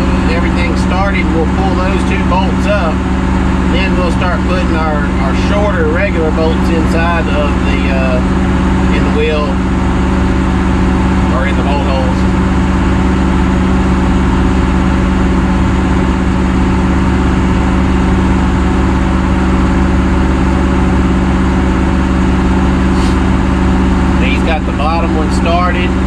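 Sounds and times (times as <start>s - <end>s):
heavy machinery engine idling: 0.0s - 26.0s.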